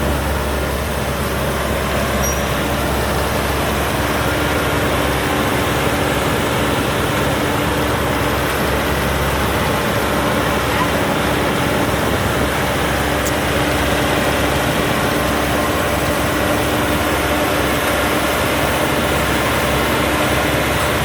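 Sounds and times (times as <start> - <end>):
combine harvester diesel engine: 0.0 - 21.0
steady whine: 0.0 - 21.0.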